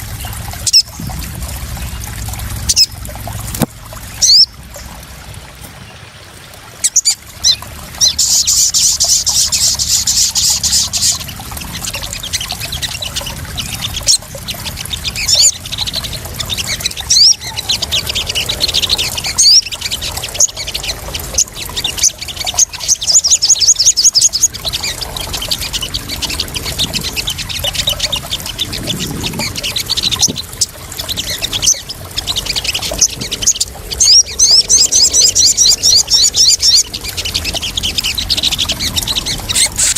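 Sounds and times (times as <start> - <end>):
water splashing and trickling: 0.0 - 39.9
bird chattering trills: 6.8 - 39.9.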